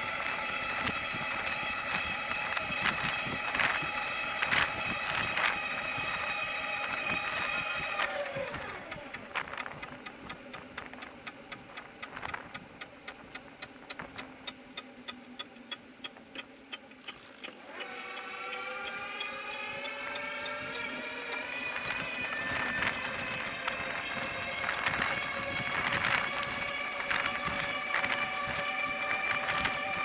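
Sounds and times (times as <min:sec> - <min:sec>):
bicycle wheel ticking: 0:00.0 - 0:30.0
multi-tone whine: 0:00.0 - 0:30.0.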